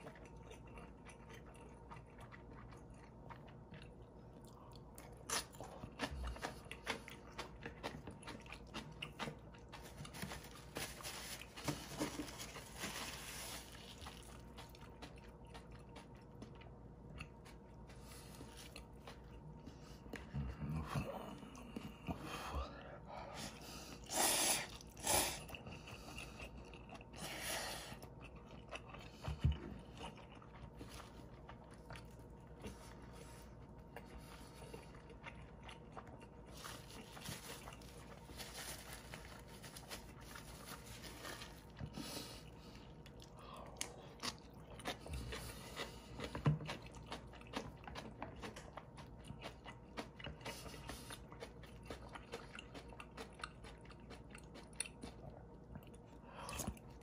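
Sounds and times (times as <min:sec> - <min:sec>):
chewing and mouth clicks: 0:00.0 - 0:10.8, 0:13.6 - 0:22.3, 0:23.5 - 0:38.4, 0:39.0 - 0:57.0.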